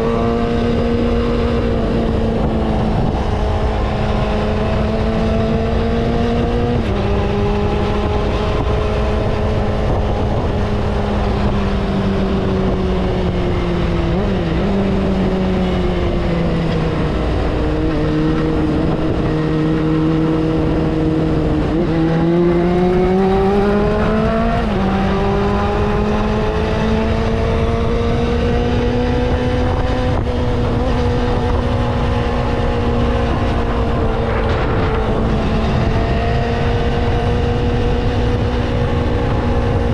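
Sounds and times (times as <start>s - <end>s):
motorcycle engine under way: 0.0s - 39.9s
wind and road noise: 0.0s - 39.9s.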